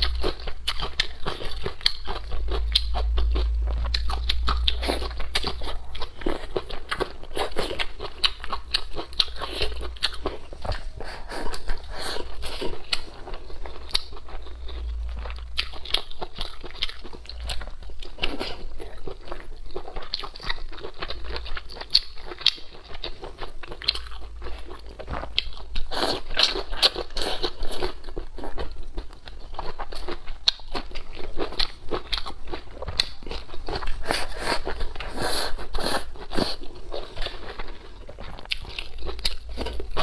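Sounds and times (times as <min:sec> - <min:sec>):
wet chewing and crunching: 0:00.0 - 0:40.0.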